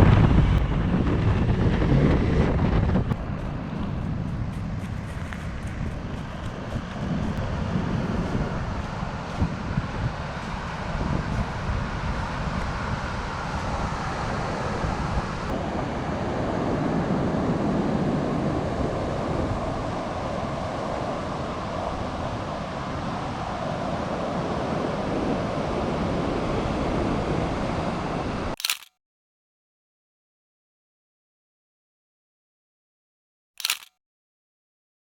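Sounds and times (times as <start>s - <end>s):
wind rush over microphone: 0.0s - 28.6s
road and engine noise: 0.0s - 28.9s, 33.6s - 33.9s.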